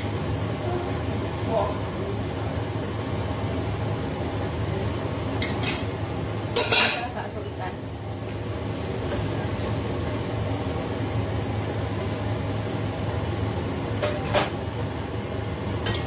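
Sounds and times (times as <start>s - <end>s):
low kitchen hum: 0.0s - 16.0s.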